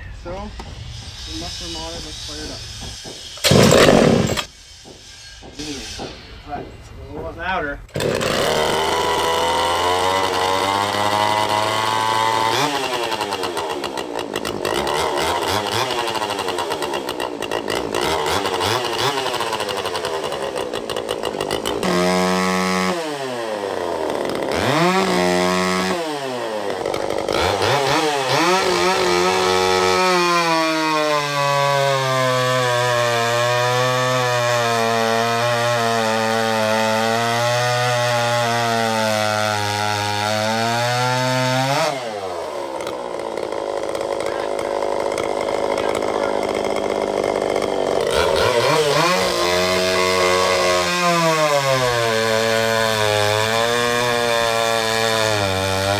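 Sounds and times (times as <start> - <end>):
chainsaw revving and cutting: 3.3 - 4.5, 7.9 - 55.9.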